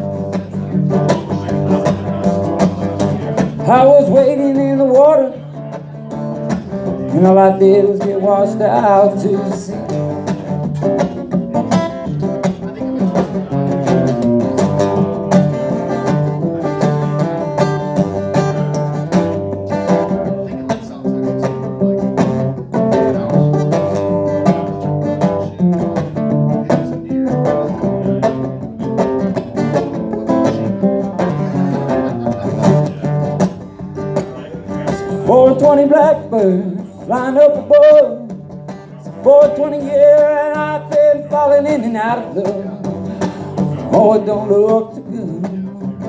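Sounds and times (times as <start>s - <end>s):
blues guitar playing: 0.0s - 46.0s.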